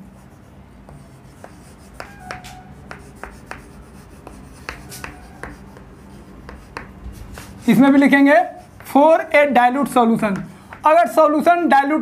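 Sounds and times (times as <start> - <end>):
chalk squeaks: 0.0 - 10.8
chalk tapping and scraping: 0.0 - 11.6.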